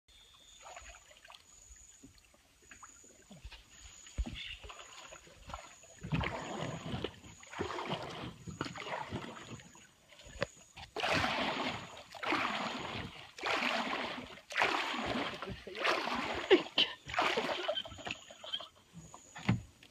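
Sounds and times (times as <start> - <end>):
water splashing around canoe: 0.2 - 19.9.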